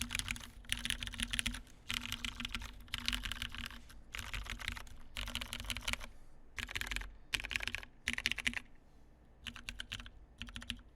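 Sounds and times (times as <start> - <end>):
mechanical keyboard typing: 0.0 - 8.7, 9.4 - 10.9.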